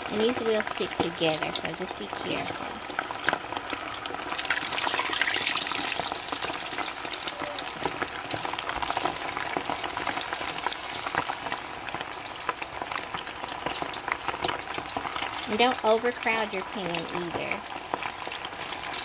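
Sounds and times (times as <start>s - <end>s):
oil sizzling and crackling: 0.0s - 19.0s.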